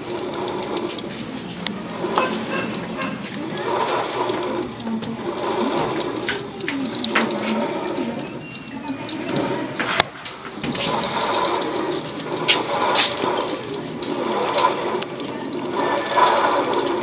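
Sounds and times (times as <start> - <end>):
scooter engine running: 0.0 - 17.0
small ticks and rattles: 0.0 - 17.0
whirring gear noise: 0.0 - 17.0.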